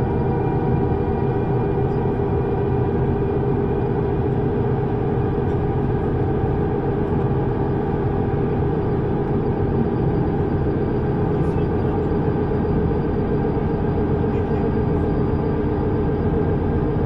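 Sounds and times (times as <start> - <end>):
steady motor tones: 0.0 - 17.0
subway train rumble: 0.0 - 17.0.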